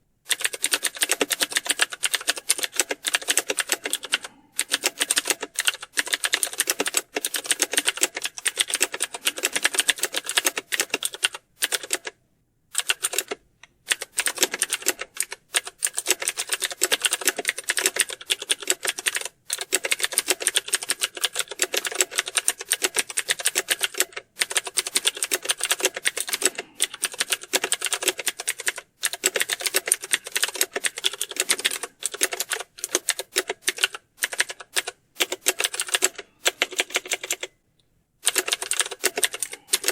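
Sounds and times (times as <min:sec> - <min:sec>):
fast typing on keyboard: 0:00.3 - 0:37.6, 0:38.2 - 0:39.9.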